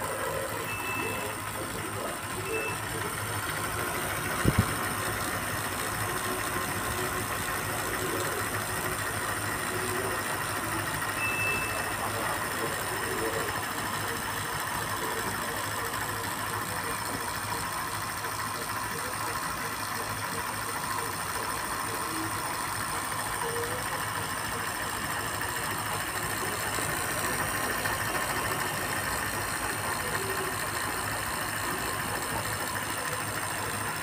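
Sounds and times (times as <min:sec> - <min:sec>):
film projector motor whirring: 0:00.0 - 0:34.0.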